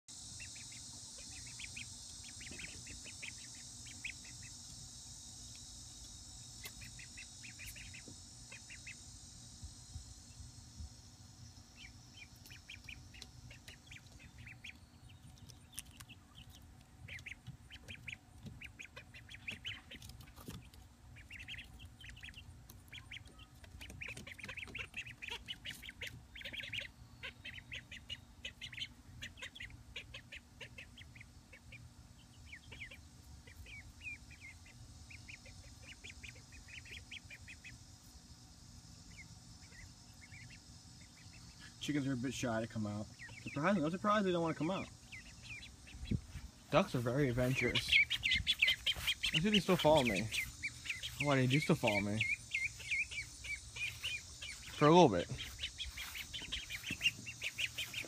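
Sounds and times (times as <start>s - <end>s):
ducklings and chicks peeping: 0.1s - 58.0s
steady high hiss: 0.1s - 58.0s.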